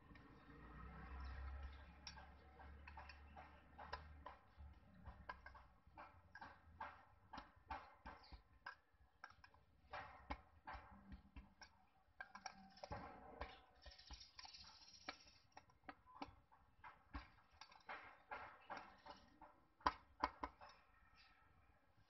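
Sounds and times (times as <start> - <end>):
metallic clicks and taps of tool: 0.0 - 21.3.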